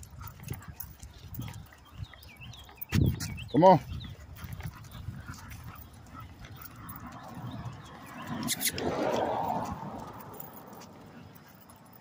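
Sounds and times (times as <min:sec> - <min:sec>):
dogs moving about: 0:00.0 - 0:12.0.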